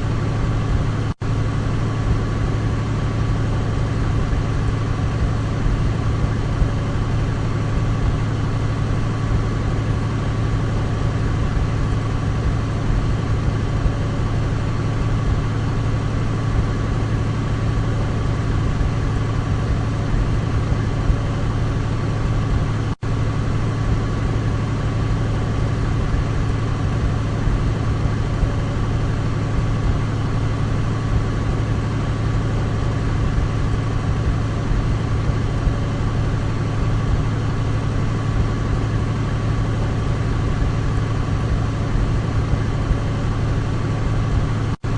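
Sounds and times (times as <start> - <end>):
faint engine whine: 0.0 - 44.9
propeller plane engines droning: 0.0 - 44.9.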